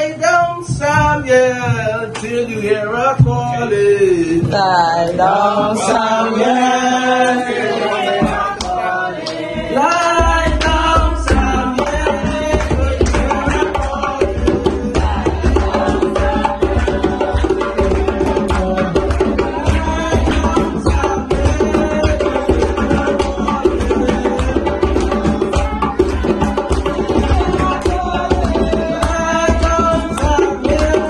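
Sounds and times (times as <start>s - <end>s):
drums: 0.2s - 2.2s, 3.1s - 4.9s, 9.4s - 31.0s.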